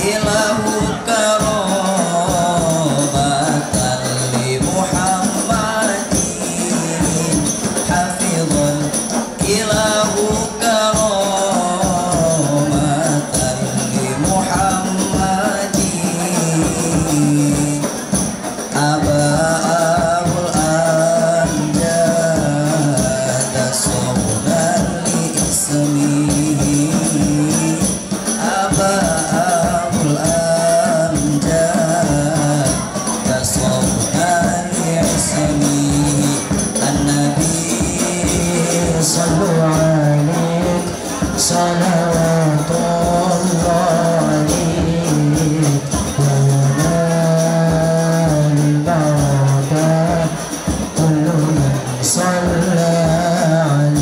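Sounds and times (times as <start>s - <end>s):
frame drums beating: 0.0s - 54.0s
men singing with held notes: 0.0s - 54.0s.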